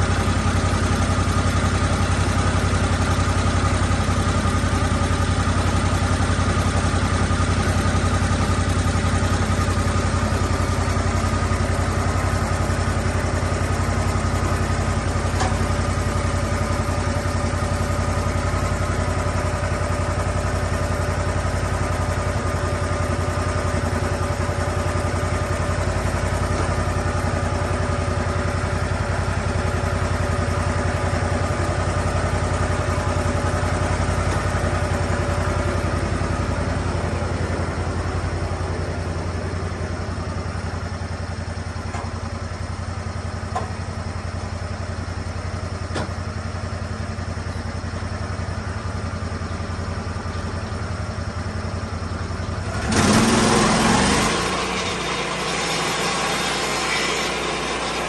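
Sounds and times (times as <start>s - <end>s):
sawmill engine whine: 0.0s - 58.0s.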